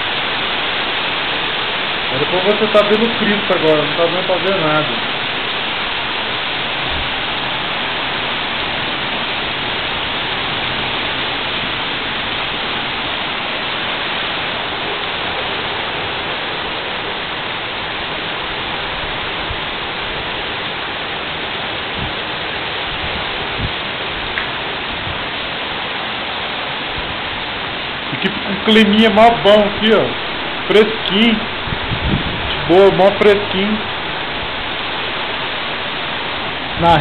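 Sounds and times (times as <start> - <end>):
heavy rain on pavement: 0.0 - 37.0.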